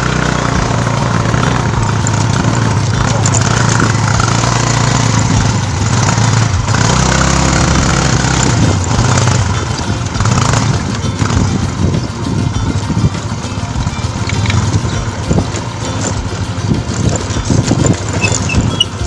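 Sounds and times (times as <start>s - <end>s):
noisy rush: 0.0s - 19.0s
vehicle engine running: 0.0s - 19.0s.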